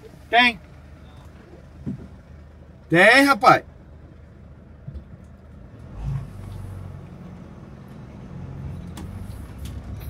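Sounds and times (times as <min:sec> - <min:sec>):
car engine running: 0:00.0 - 0:10.0
road noise: 0:00.0 - 0:10.0.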